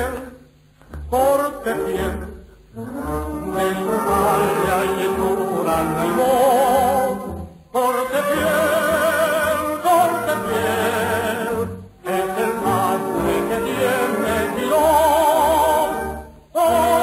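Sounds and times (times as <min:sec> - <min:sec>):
musical accompaniment: 0:00.0 - 0:17.0
operatic singing: 0:00.0 - 0:17.0.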